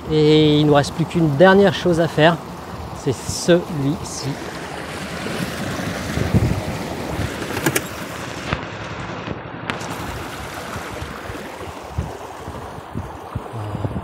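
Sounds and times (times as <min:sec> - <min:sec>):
rushing water: 0:00.0 - 0:14.0
wind buffeting microphone: 0:00.0 - 0:14.0.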